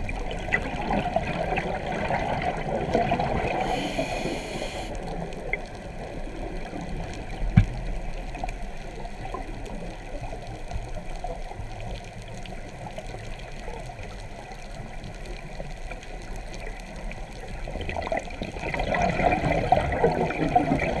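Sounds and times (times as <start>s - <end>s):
gurgling bubbles: 0.0s - 11.6s, 14.7s - 21.0s
underwater rumble and hiss: 0.0s - 21.0s.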